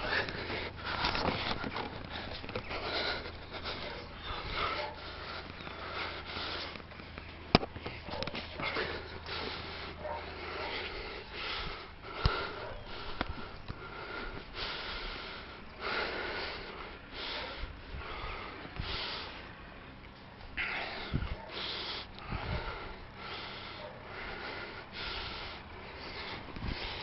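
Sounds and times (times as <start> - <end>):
heavy breathing: 0.0 - 27.0.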